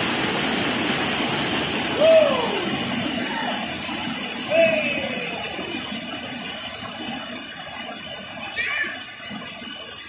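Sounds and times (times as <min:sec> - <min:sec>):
waterfall rushing into pool: 0:00.0 - 0:10.0
people wading and splashing: 0:01.8 - 0:09.9.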